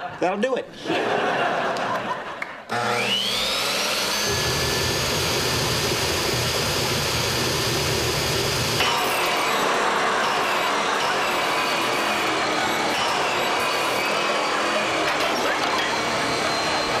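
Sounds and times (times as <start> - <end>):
motor whining: 2.7 - 17.0.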